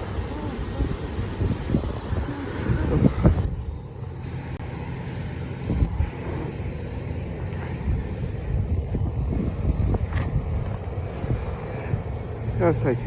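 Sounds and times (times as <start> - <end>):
distant jet aircraft: 0.0 - 13.0
wind buffeting microphone: 0.0 - 13.0.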